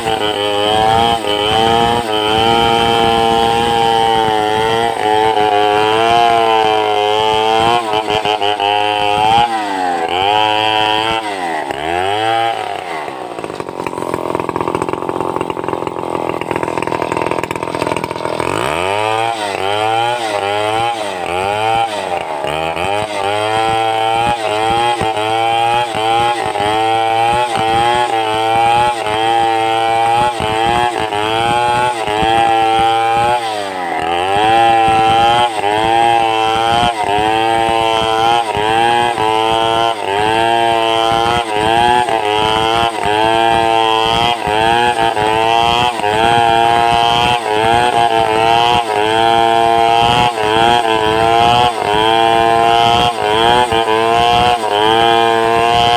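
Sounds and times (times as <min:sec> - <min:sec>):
chainsaw cutting timber: 0:00.0 - 0:55.9.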